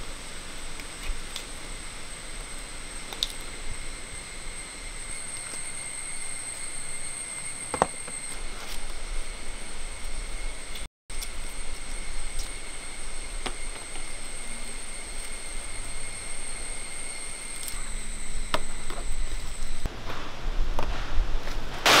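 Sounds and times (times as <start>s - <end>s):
high-pitched insect drone: 1.6s - 19.9s.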